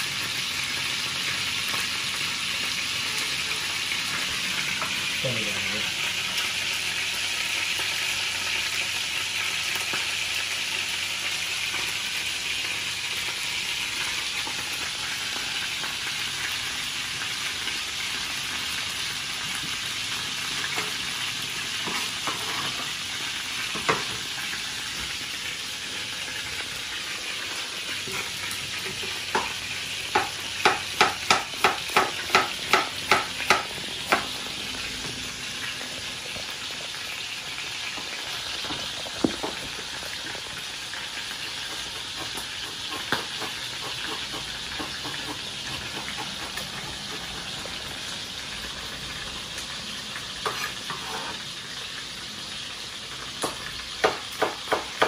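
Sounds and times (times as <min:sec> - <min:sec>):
fish sizzling in a pan: 0:00.0 - 0:55.0.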